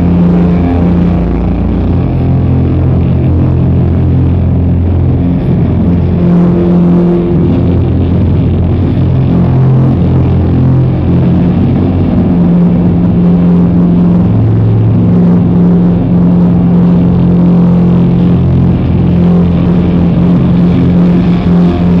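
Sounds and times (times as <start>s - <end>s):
electric guitars sustained low notes: 0.0s - 22.0s.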